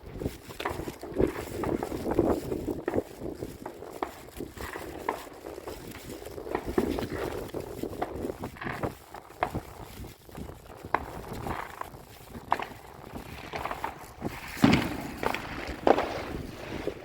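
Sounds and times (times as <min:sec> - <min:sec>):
footsteps walking: 0:00.0 - 0:17.0.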